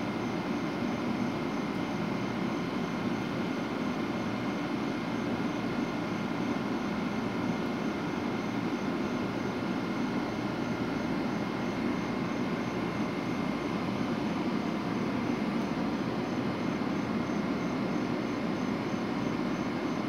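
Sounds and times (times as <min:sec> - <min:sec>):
locomotive cooling blowers whirring: 0:00.0 - 0:20.0.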